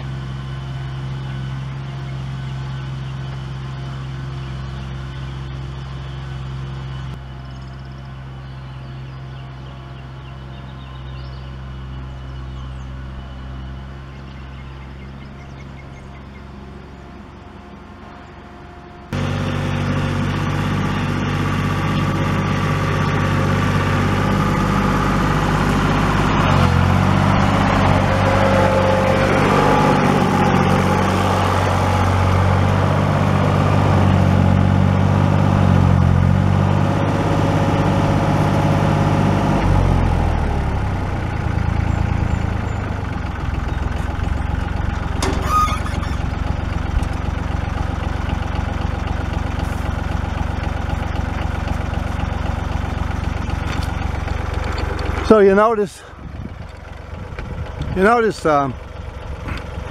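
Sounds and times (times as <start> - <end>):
tractor engine running and idling: 0.0 - 59.9.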